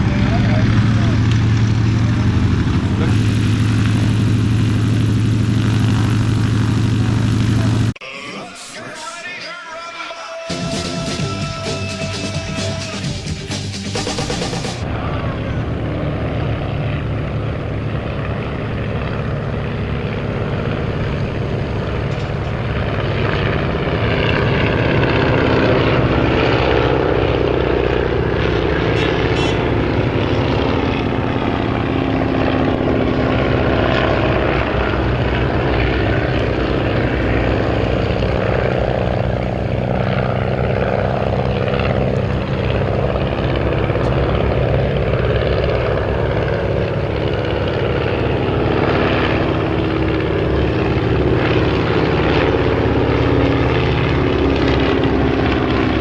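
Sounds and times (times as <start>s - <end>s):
propeller plane engine running: 0.0s - 8.0s, 10.6s - 56.0s.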